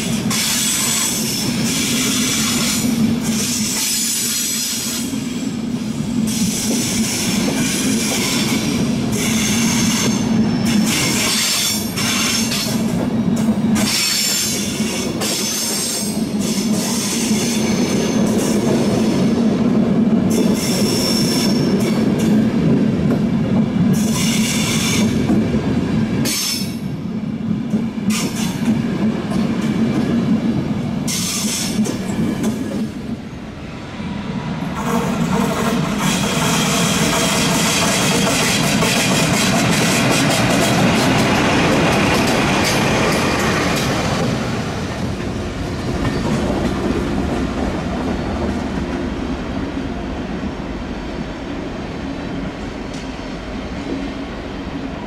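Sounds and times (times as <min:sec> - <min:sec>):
low rumble of train wheels: 0:00.0 - 0:55.0.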